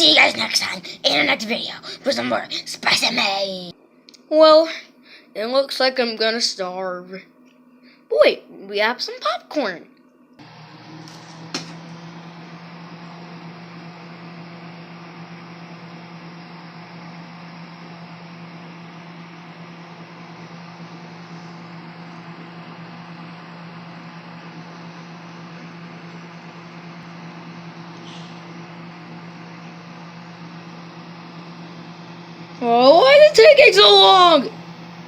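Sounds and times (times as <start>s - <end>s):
microwave oven humming: 0.0s - 3.8s, 10.1s - 35.0s.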